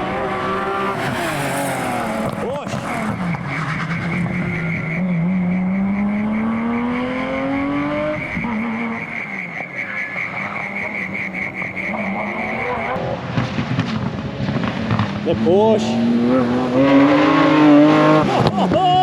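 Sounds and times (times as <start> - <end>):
rally car engine pulling hard: 0.0 - 19.0.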